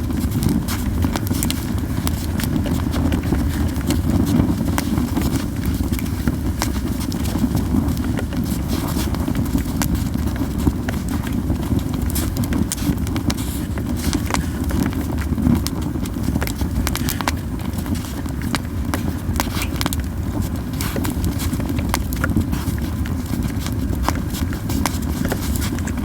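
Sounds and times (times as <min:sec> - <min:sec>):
campfire crackling and popping: 0:00.0 - 0:26.0
low rumble of fire: 0:00.0 - 0:26.0.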